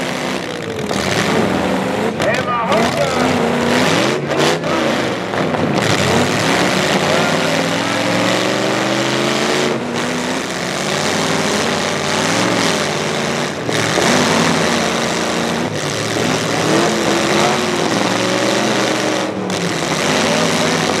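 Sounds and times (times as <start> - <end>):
truck engines revving loudly: 0.0 - 21.0.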